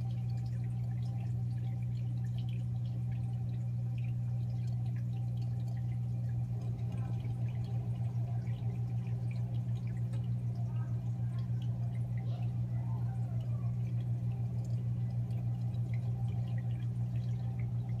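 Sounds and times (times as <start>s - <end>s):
aquarium equipment humming: 0.0s - 18.0s
water trickling and dripping: 0.0s - 18.0s.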